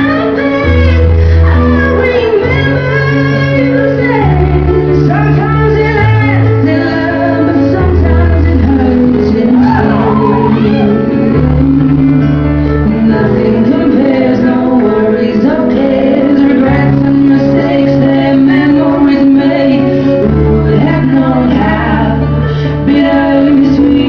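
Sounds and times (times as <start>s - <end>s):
person singing: 0.0s - 24.0s
sustained bass notes: 0.0s - 24.0s.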